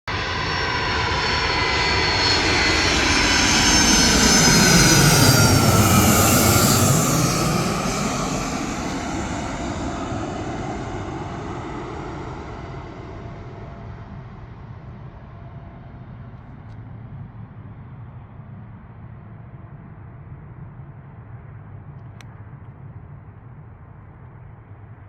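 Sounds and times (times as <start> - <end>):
jet airliner passing: 0.1 - 21.8.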